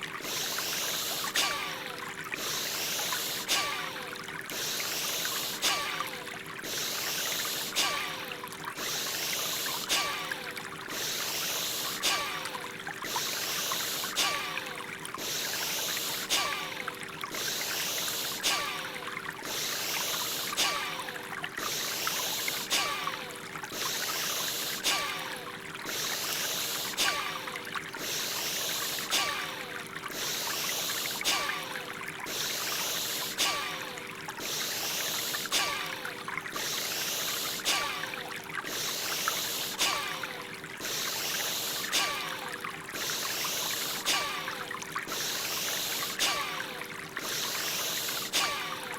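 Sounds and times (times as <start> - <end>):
flowing water: 0.0 - 48.9
forceful rhythmic breathing: 0.1 - 48.9.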